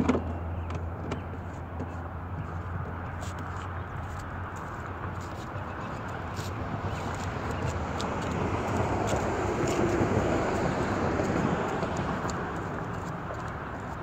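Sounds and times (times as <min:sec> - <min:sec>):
cart wheels rolling over pavement: 0:00.0 - 0:14.0.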